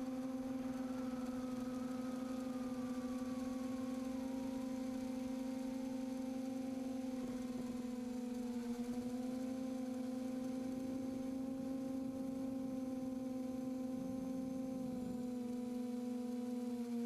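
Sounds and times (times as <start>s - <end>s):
quadcopter motors humming: 0.0s - 17.0s.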